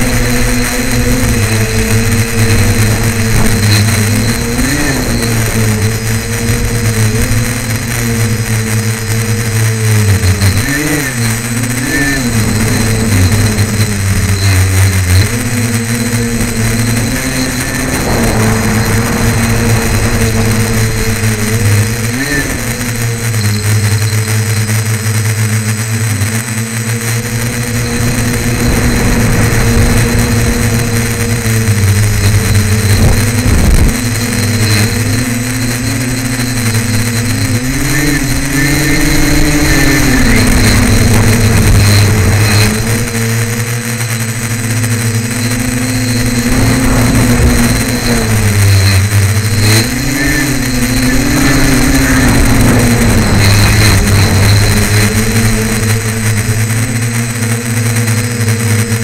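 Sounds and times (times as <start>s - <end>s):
drone motors and propellers humming: 0.0s - 59.0s.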